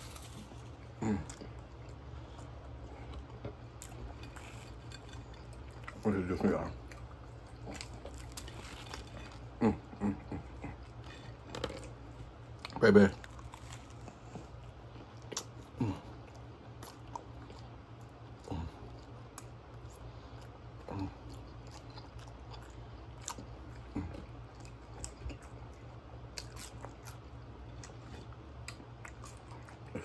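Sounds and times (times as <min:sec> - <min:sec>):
wet chewing sounds: 0:00.0 - 0:30.0.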